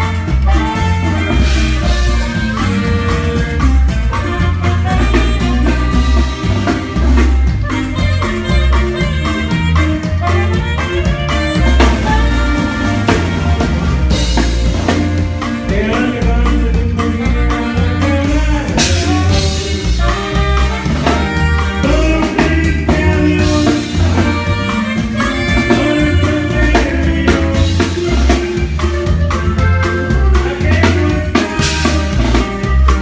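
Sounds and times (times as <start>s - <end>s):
accordion melody: 0.0s - 33.0s
live band music: 0.0s - 33.0s.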